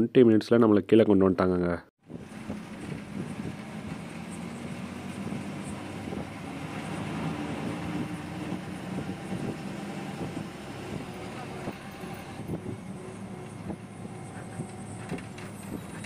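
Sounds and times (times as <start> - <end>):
bus engine and road noise: 2.0 - 16.0.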